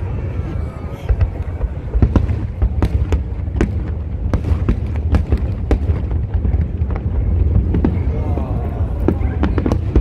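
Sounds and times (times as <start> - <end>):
continuous low rumble: 0.0 - 10.0
fireworks bangs: 0.0 - 10.0.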